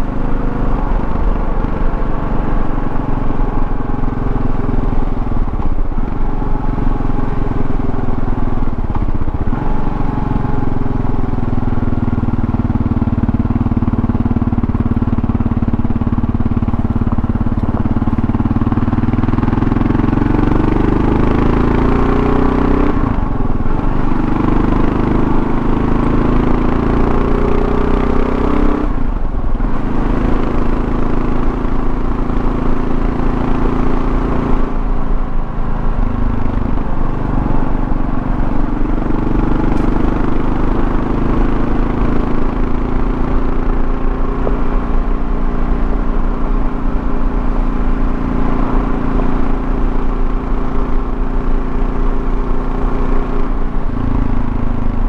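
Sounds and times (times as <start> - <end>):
motorcycle engine: 0.0 - 55.0
wind and road noise: 0.0 - 55.0.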